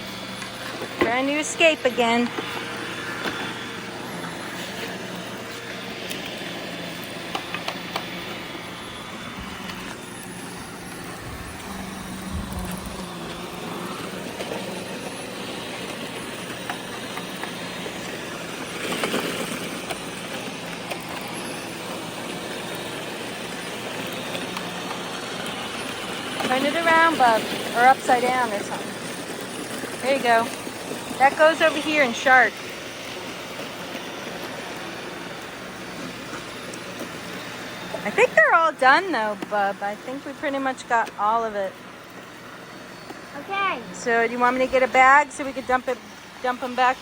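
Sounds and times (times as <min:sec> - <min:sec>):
robot vacuum cleaners whirring: 0:00.0 - 0:47.0.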